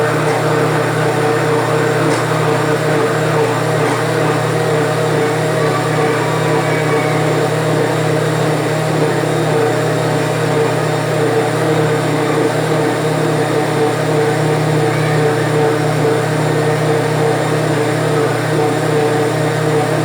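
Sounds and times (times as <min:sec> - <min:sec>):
blender motor running: 0:00.0 - 0:20.0.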